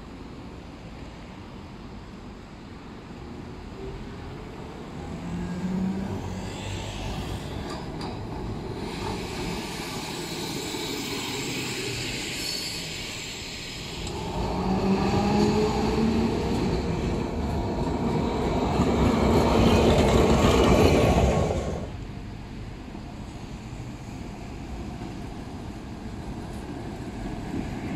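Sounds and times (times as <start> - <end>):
tram wheels rumbling on rails: 3.8 - 27.9.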